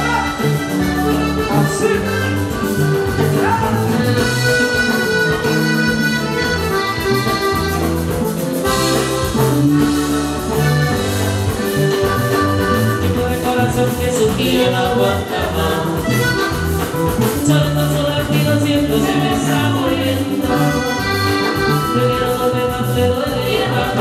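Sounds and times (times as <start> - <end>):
button accordion: 0.0 - 24.0
drum kit: 0.0 - 24.0
electric bass: 0.0 - 24.0
guitar: 0.0 - 24.0.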